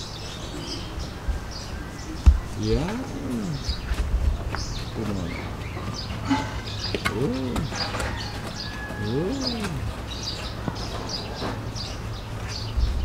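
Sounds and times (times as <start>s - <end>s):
low cooing calls: 0.1s - 12.7s.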